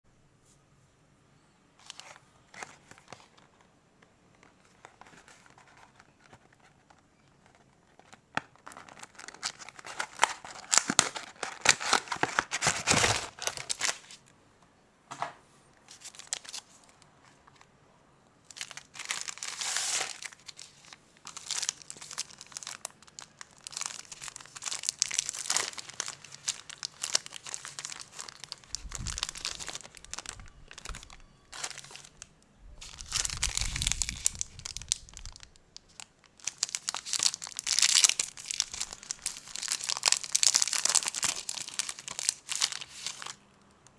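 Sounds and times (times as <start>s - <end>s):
plastic wrappers crinkling: 1.8s - 3.7s, 4.3s - 14.3s, 15.9s - 17.7s, 18.4s - 43.9s.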